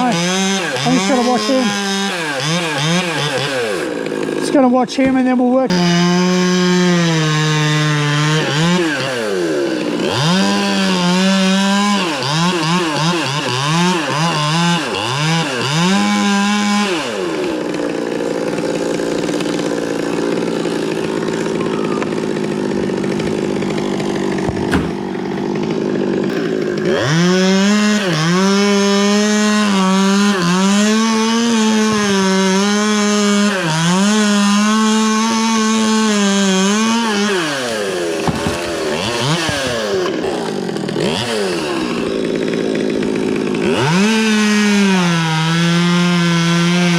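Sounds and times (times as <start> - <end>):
chainsaw revving and cutting wood: 0.0 - 46.9.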